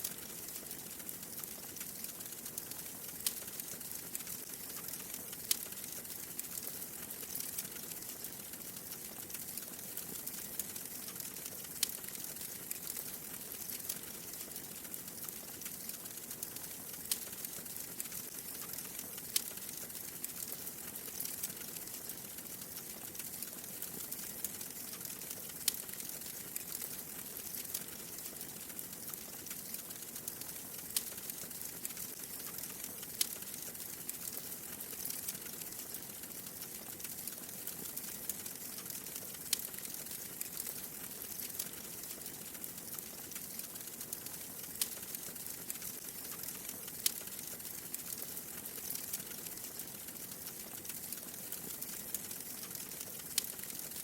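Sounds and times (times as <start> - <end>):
fire popping: 0.0 - 54.0
wood fire crackling: 0.0 - 54.0.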